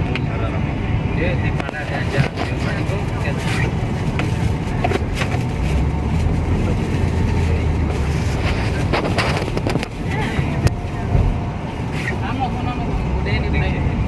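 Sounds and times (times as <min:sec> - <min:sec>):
faint voices: 0:00.0 - 0:14.0
vehicle engine rumbling: 0:00.0 - 0:14.0.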